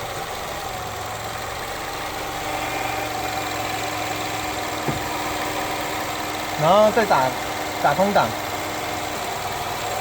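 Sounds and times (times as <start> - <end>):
car engine idling hum: 0.0 - 10.0.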